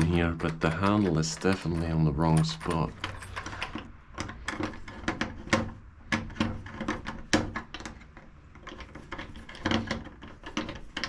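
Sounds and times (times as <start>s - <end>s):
lock parts clicking and knocking: 0.0s - 11.0s.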